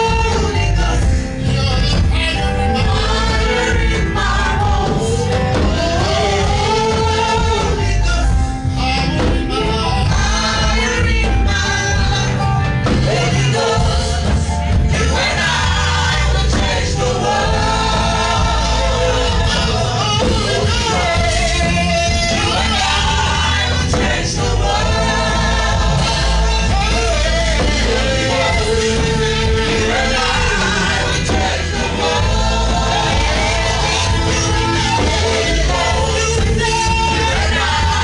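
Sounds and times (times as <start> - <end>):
band with strong bass: 0.0 - 38.0
voices singing: 0.0 - 38.0.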